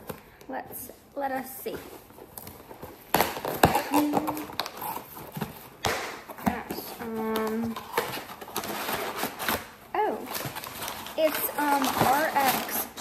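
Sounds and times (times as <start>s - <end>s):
paper packing crinkling: 1.8s - 13.0s
package tearing: 2.4s - 13.0s.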